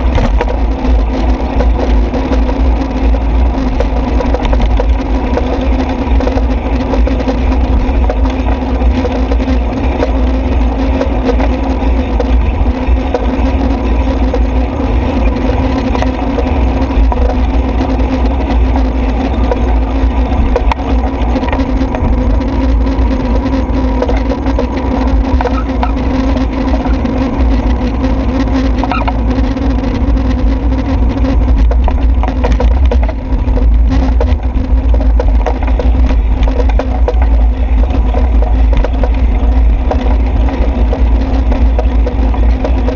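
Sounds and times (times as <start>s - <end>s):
road traffic passing: 0.0s - 42.9s
wind rumble on microphone: 0.0s - 42.9s.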